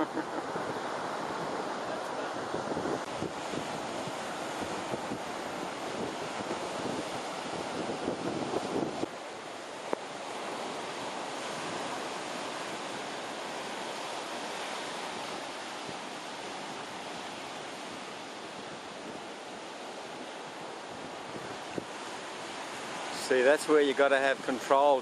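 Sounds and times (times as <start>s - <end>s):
wind buffeting microphone: 0.0s - 23.1s
surf washing on beach: 0.0s - 25.0s.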